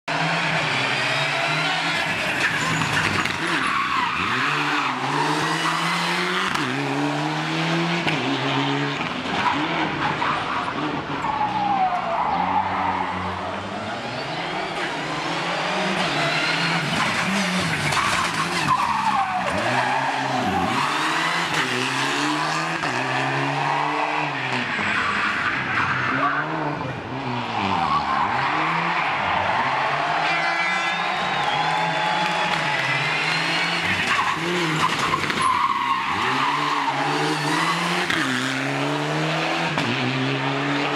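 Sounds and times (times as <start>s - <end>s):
rally car engines revving: 0.1s - 40.9s.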